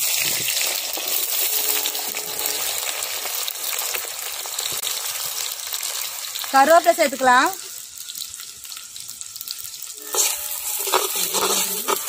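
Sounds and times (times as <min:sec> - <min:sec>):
shallots sizzling in hot oil: 0:00.0 - 0:12.0.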